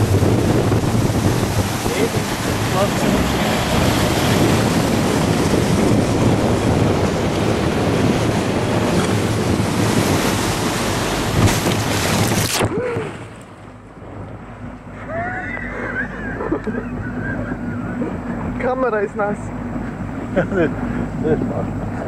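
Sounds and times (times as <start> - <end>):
low rumble: 0.0 - 20.6
rushing spray and wake water: 0.0 - 22.0
wind buffeting microphone: 0.0 - 22.0.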